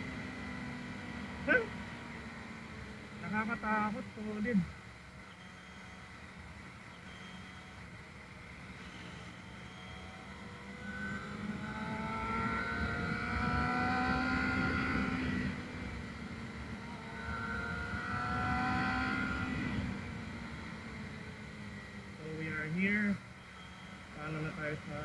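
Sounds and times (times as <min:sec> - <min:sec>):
motorcycle engine accelerating: 0:00.0 - 0:04.6, 0:05.2 - 0:25.0.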